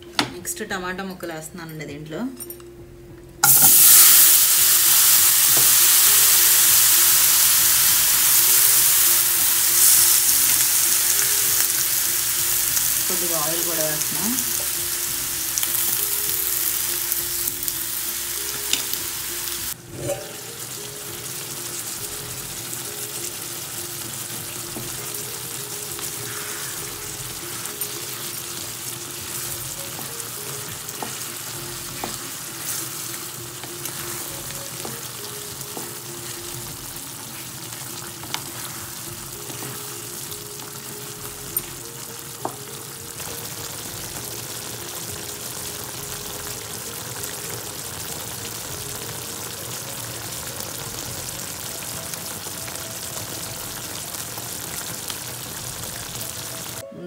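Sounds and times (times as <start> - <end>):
tomatoes sizzling in hot oil: 3.4 - 56.8.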